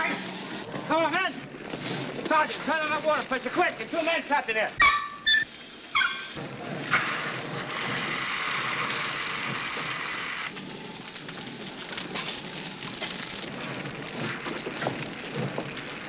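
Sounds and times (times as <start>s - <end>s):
fire hose spraying water: 0.0s - 4.7s, 5.6s - 16.0s
crackling and splashing: 0.0s - 4.8s, 6.4s - 16.0s.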